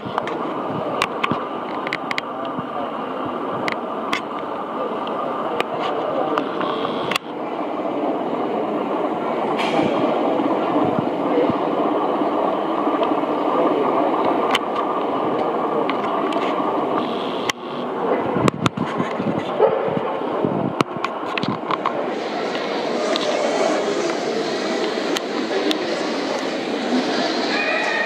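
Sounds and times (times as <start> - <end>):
hubbub of many voices: 0.0 - 28.0.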